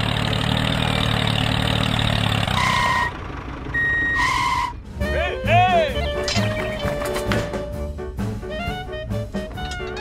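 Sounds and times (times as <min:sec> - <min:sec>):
tractor engine idling: 0:00.0 - 0:08.5.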